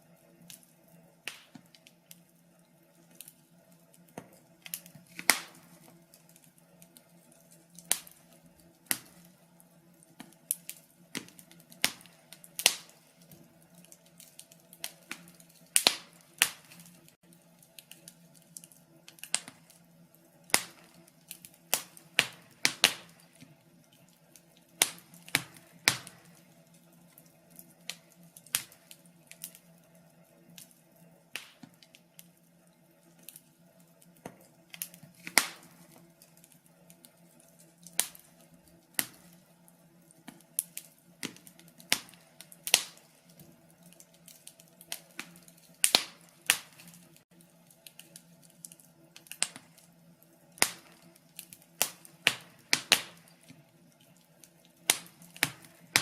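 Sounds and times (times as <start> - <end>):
wood fire pops and snaps: 0.4 - 56.0.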